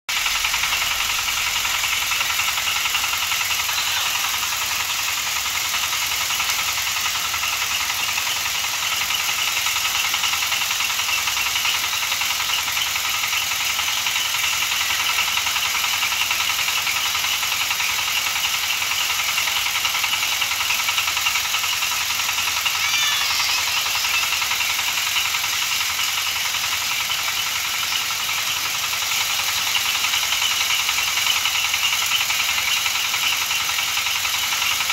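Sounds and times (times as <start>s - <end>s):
threshing machine running: 0.1s - 34.9s.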